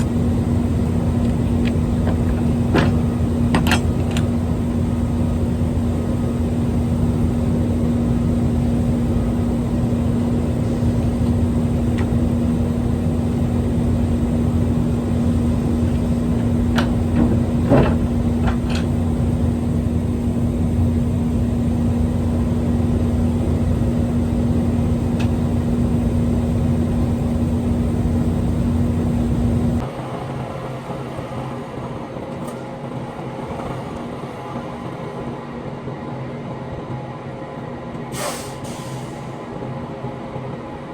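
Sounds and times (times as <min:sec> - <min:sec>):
diesel engine rumbling: 0:00.0 - 0:40.6.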